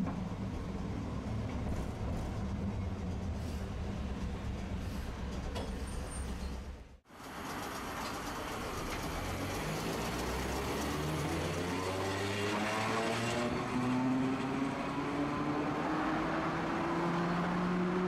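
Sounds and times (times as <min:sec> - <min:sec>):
tram motor whine rising: 0:00.0 - 0:18.0.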